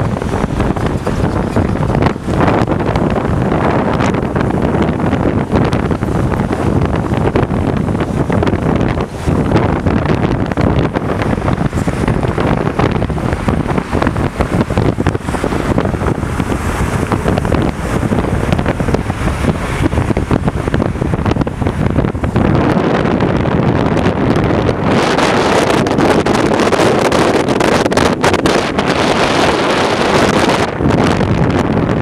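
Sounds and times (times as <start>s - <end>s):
motorcycle engine and road noise: 0.0s - 32.0s
wind buffeting microphone: 0.0s - 32.0s.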